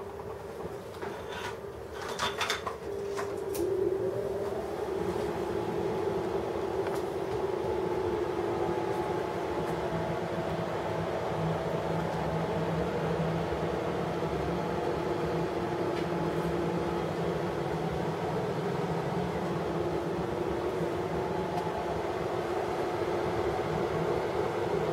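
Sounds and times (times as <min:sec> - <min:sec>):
welding station humming: 0:00.0 - 0:24.9.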